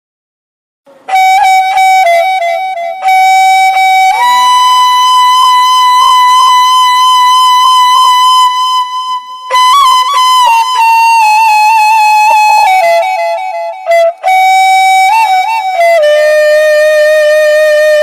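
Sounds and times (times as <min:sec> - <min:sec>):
wind instrument melody: 0:00.9 - 0:18.0.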